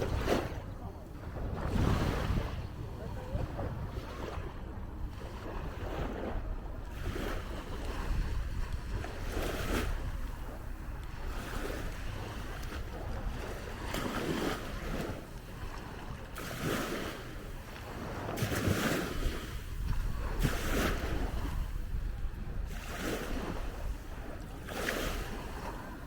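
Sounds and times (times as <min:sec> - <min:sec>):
sea waves washing onto beach: 0:00.0 - 0:26.0
wind rumbling on microphone: 0:00.0 - 0:26.0.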